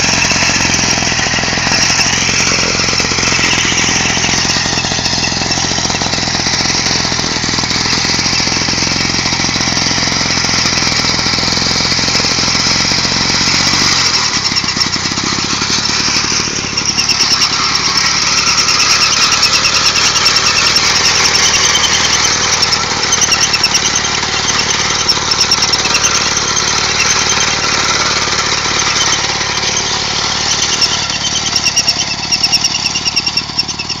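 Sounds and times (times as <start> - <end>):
high shrill whine: 0.0 - 34.0
lawn mower engine running: 0.0 - 34.0.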